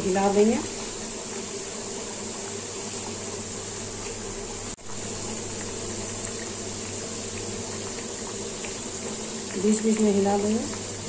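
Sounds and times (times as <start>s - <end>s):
dough sizzling in hot oil: 0.0s - 11.0s.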